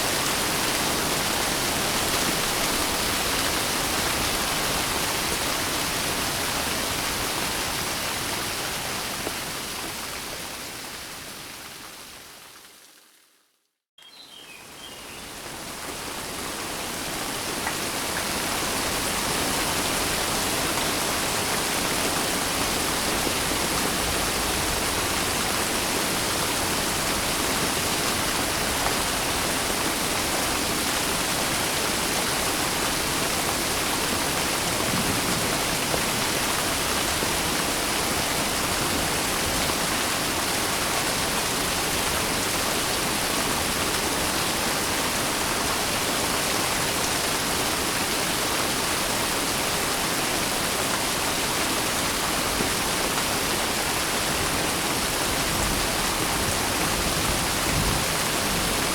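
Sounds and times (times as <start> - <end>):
heavy rain: 0.0 - 12.9, 14.6 - 58.9.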